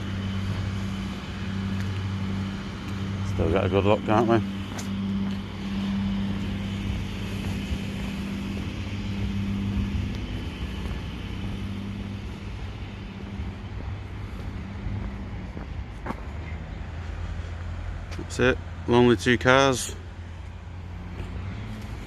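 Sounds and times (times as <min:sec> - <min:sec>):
car engine humming: 0:00.0 - 0:22.0
road noise: 0:00.0 - 0:22.0.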